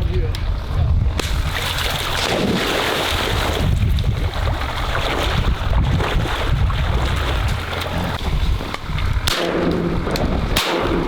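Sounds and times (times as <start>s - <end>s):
wind buffeting microphone: 0.0s - 11.0s
rushing splashing water: 1.2s - 11.0s.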